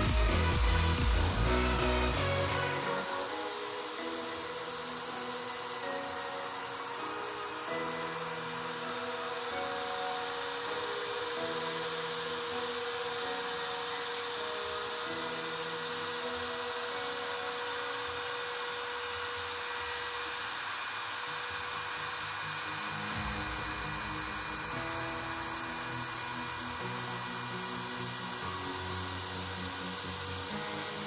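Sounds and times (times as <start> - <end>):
background music with low notes: 0.0 - 31.0
router spindle whining: 0.0 - 31.0.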